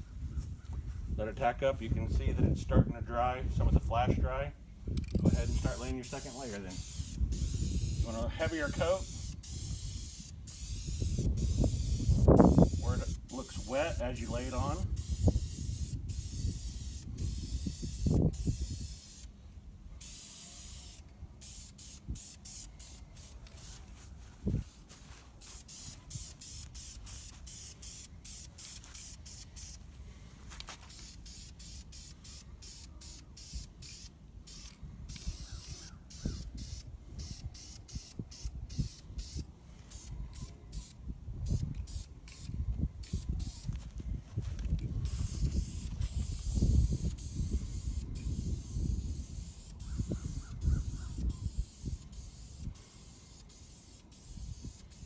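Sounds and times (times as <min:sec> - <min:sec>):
aerosol can spraying: 0:05.2 - 0:19.3, 0:20.0 - 0:29.8, 0:30.5 - 0:55.0.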